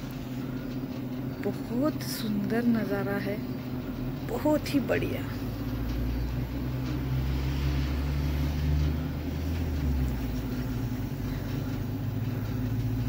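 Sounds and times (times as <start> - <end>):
air conditioner hum and hiss: 0.0 - 13.0.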